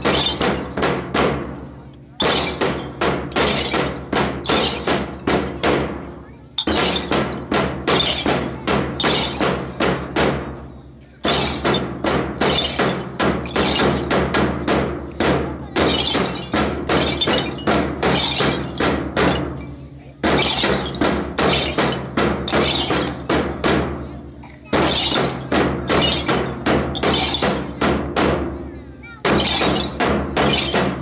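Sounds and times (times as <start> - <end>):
metal noisemakers crashing: 0.0 - 1.6, 2.2 - 31.0.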